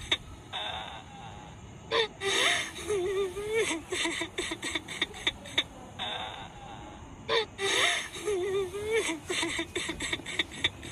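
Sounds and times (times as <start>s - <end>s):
breathy hiss: 0.0s - 10.9s
ghostly gasps and whimpers: 0.0s - 10.9s.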